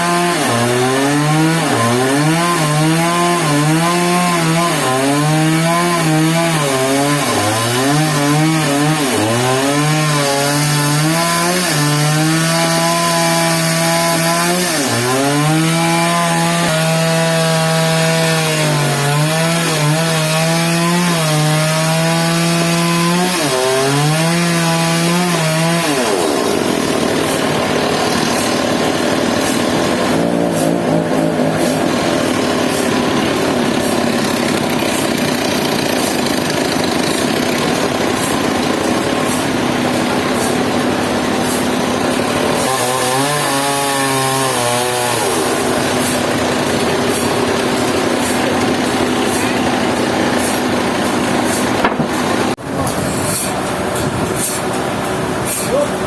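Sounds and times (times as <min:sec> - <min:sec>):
powered saw cutting a log: 0:00.0 - 0:56.0.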